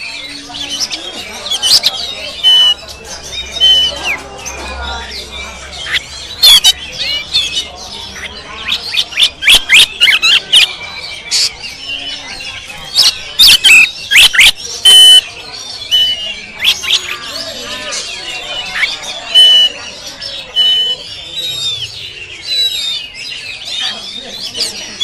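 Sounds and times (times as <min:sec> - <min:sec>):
bird singing whistled notes: 0:00.0 - 0:24.0.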